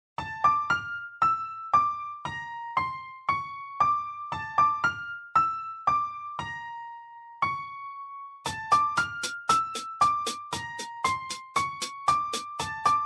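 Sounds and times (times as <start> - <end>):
solo piano melody: 0.2 - 13.0.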